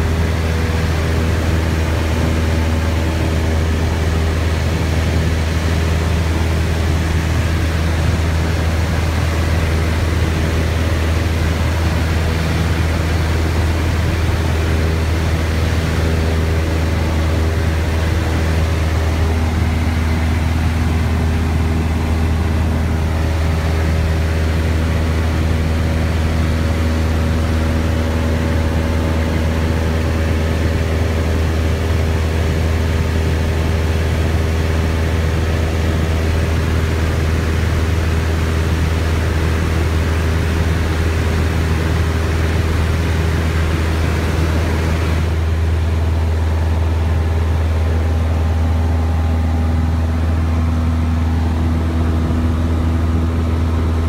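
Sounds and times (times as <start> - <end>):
airplane engine droning in cabin: 0.0 - 54.0.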